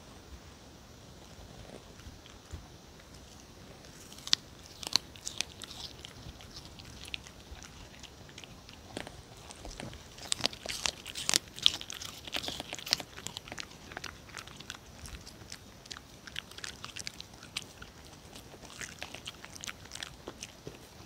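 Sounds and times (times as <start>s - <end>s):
dog chewing rind: 1.2s - 21.0s.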